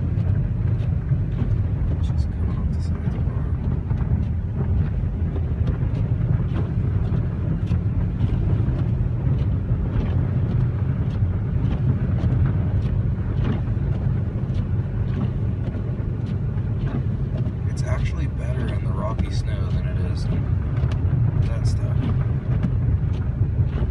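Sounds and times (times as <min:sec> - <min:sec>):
car engine and road rumble: 0:00.0 - 0:23.9.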